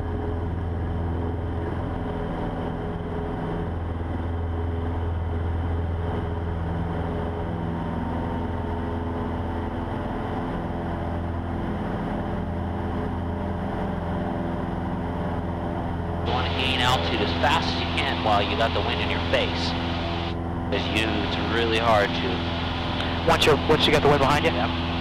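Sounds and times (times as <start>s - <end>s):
small plane engine and propeller: 0.0s - 25.0s.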